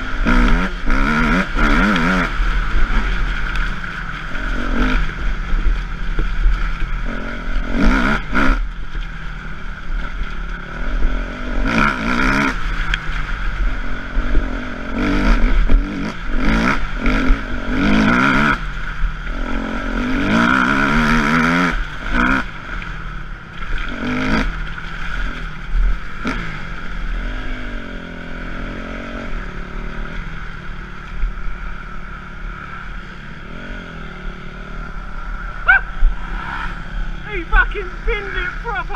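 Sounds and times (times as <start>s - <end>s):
motocross engine revving: 0.0s - 5.6s, 6.6s - 8.7s, 10.0s - 23.1s, 23.8s - 38.9s.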